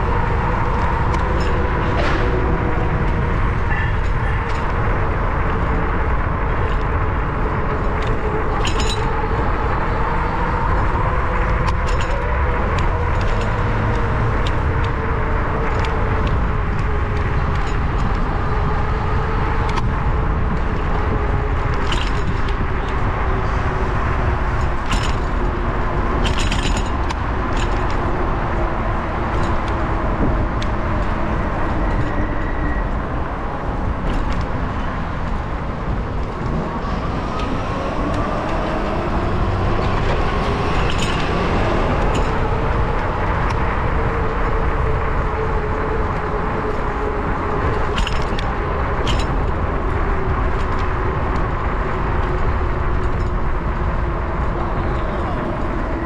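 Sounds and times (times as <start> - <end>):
road rumble: 0.0 - 56.0
wind rush: 0.0 - 56.0.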